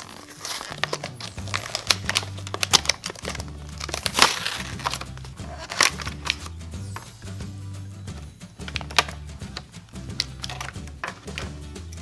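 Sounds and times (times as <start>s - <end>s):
plastic cup crinkling and clicking: 0.0s - 7.1s, 8.6s - 12.0s
background music with bass: 0.0s - 12.0s.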